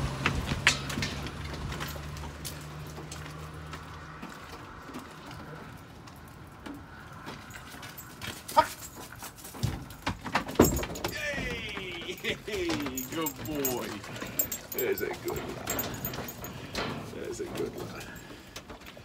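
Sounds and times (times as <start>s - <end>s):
sharp knocks and clatters: 0.0s - 4.1s, 6.6s - 17.9s.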